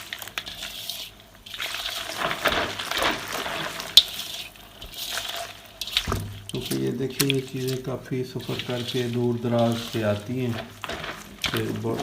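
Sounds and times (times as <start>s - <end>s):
herbs swished in water: 0.0s - 12.0s
water splashing: 0.0s - 12.0s.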